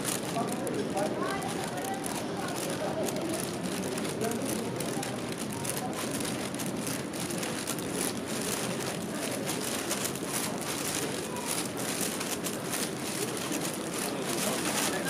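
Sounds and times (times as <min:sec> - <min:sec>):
small irregular clicks and crackles: 0:00.0 - 0:15.0.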